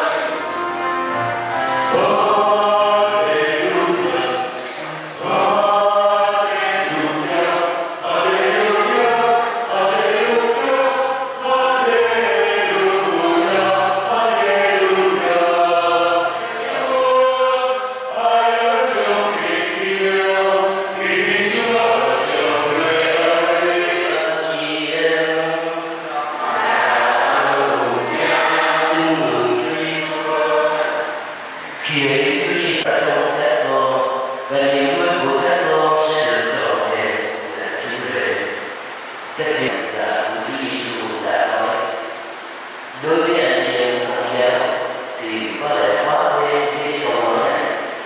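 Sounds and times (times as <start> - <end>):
choir singing a hymn: 0.0 - 42.2, 42.9 - 48.0.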